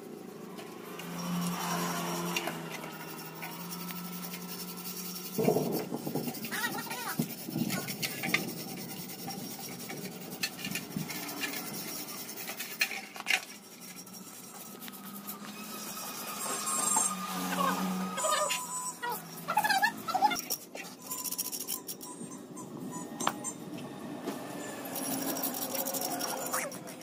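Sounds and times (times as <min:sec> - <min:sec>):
metal tool scraping spring coils: 0:01.0 - 0:23.6, 0:24.6 - 0:27.0.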